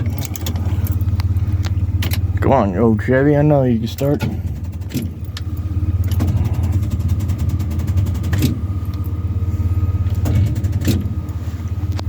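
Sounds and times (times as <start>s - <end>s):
starter cranking engine: 0.0s - 12.0s.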